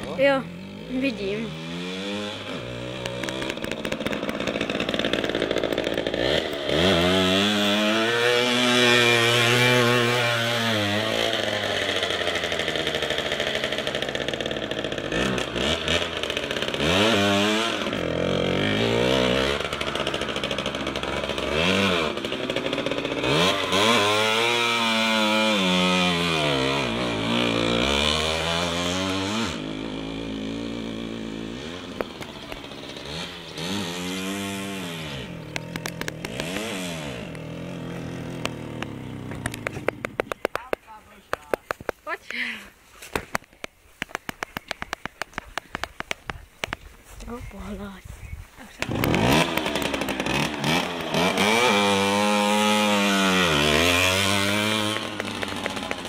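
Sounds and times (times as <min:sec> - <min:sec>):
two-stroke motorcycle engine revving: 0:00.0 - 0:41.8, 0:48.6 - 0:56.0.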